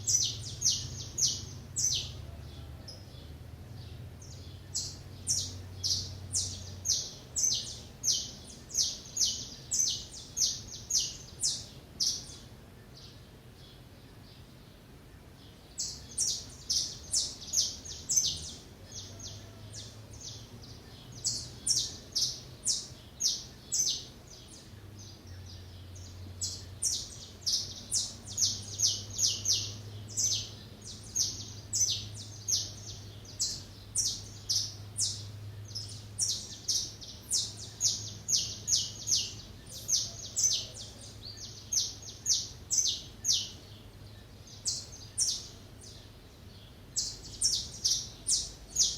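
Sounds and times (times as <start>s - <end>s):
small songbirds chirping: 0.0s - 48.9s.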